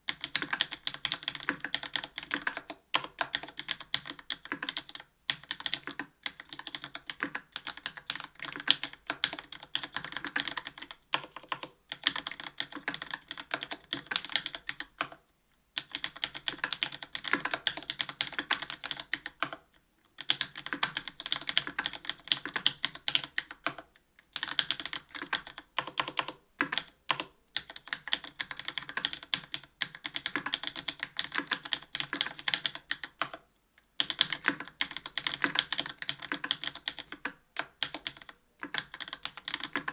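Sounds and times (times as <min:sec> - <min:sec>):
mechanical keyboard typing: 0:00.1 - 0:15.2, 0:15.8 - 0:19.6, 0:20.2 - 0:33.4, 0:34.0 - 0:39.9.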